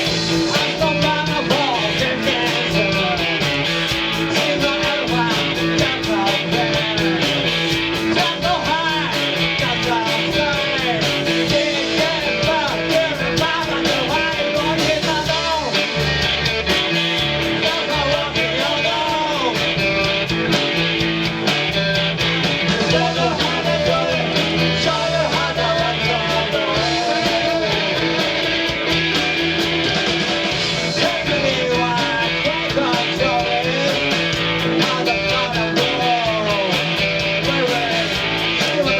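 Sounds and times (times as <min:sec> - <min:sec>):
bass: 0:00.0 - 0:38.9
electric guitar: 0:00.0 - 0:38.9
steady drum beat: 0:00.0 - 0:38.9.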